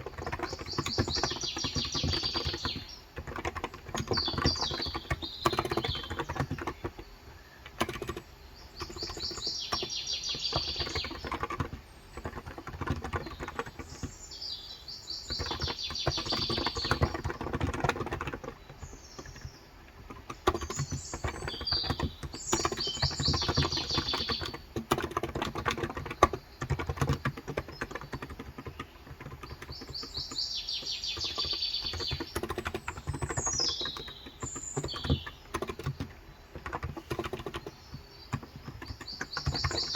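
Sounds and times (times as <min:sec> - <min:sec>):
soft keyboard typing: 0:00.0 - 0:39.9
songbird trilling: 0:00.1 - 0:39.9.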